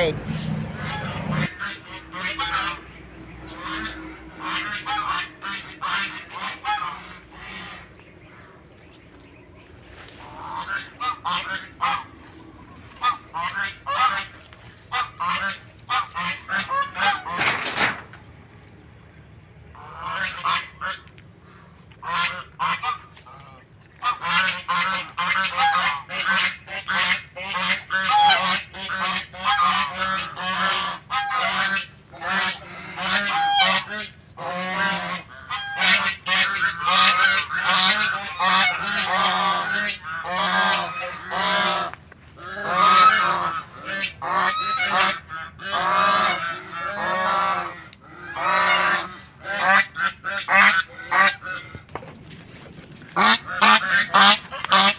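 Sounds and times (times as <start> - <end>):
geese honking: 0.0 - 8.6, 9.8 - 18.2, 19.7 - 51.9, 53.0 - 54.9.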